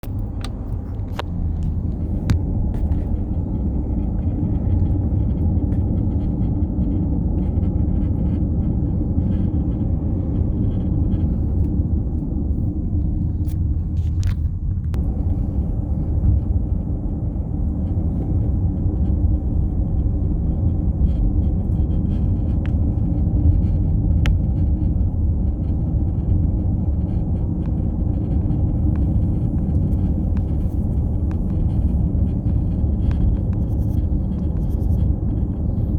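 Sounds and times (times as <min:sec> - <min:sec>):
car low rumbling buzz: 0:00.0 - 0:35.9.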